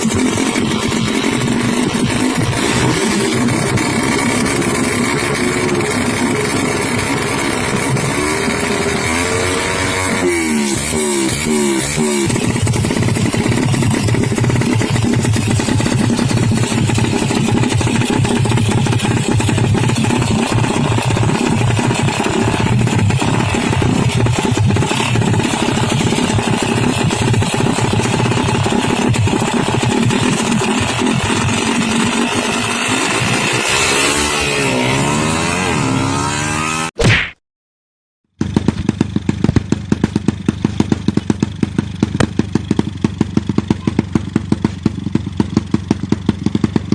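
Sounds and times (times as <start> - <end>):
motorcycle engine revving: 0.0 - 37.0, 38.3 - 46.9.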